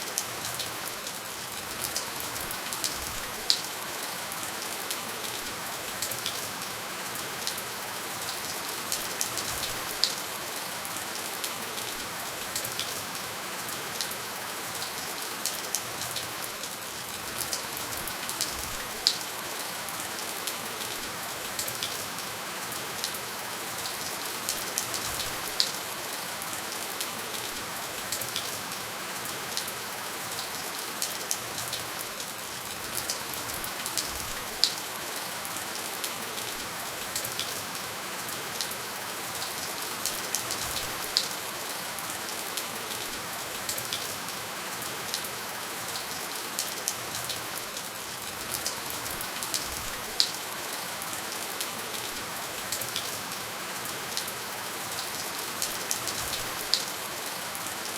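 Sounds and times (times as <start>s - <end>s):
gentle rainfall hiss: 0.0s - 57.9s
raindrops ticking close by: 0.0s - 57.9s.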